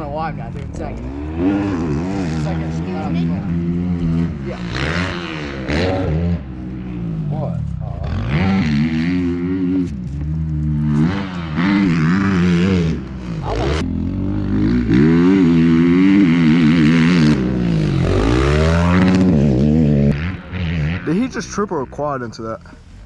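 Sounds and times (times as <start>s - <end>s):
off-road engine revving: 0.0s - 22.9s.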